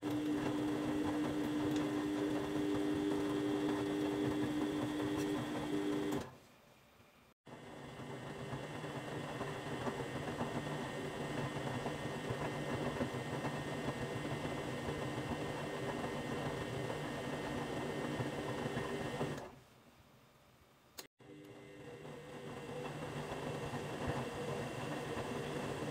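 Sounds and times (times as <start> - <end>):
wet laundry churning: 0.0 - 6.2, 7.5 - 19.4, 21.6 - 25.9
washing machine motor hum: 0.0 - 6.4, 7.4 - 19.6, 21.2 - 25.9.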